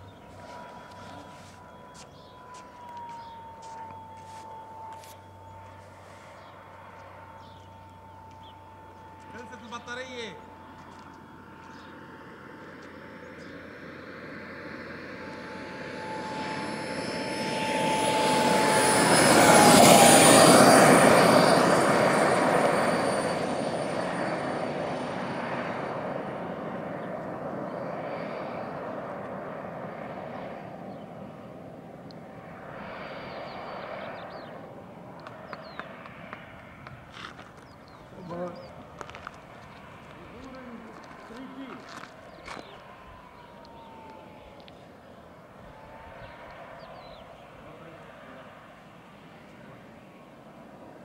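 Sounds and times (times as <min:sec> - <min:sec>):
jet turbine whine flying past: 0:00.0 - 0:51.0.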